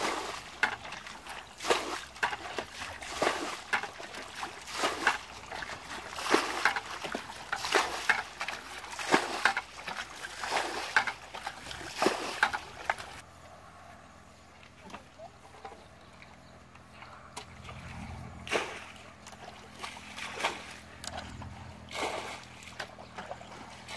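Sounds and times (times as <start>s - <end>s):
water splashing from bucket: 0.0s - 13.2s, 17.6s - 23.9s.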